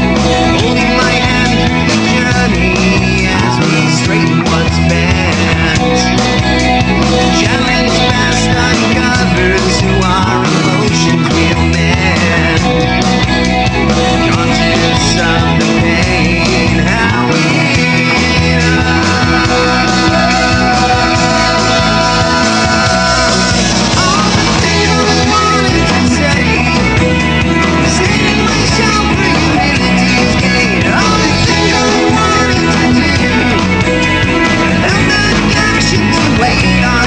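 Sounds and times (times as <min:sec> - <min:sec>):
rock music with electric guitars: 0:00.0 - 0:37.0.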